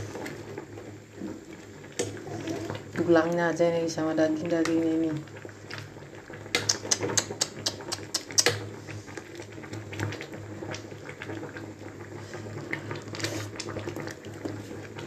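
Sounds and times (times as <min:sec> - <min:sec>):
soup bubbling in metal pot: 0:00.0 - 0:15.0.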